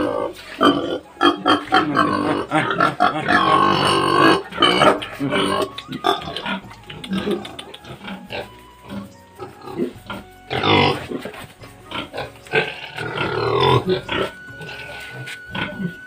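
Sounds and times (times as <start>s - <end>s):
pig grunting: 0.0s - 16.0s.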